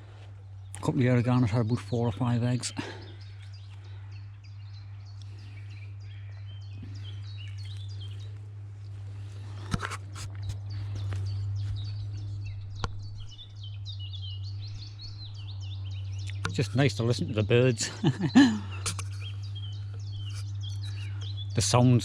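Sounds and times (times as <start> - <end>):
small birds singing and chirping: 0.0 - 22.0
steady low rumble: 0.0 - 22.0.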